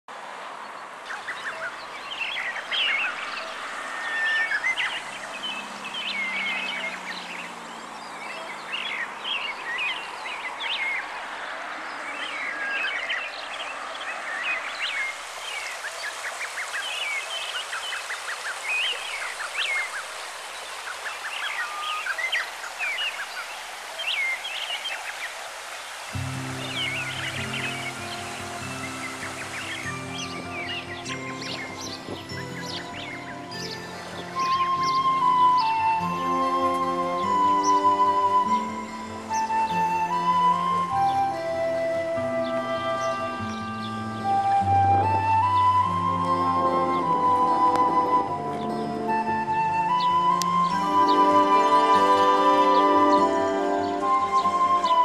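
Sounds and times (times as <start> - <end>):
faint outdoor hiss: 0.1 - 55.0
small birds chirping: 0.6 - 55.0.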